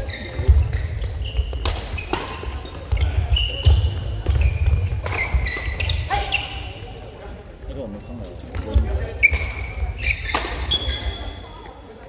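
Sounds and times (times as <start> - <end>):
shoes squeaking on court floor: 0.0 - 7.0, 7.9 - 11.9.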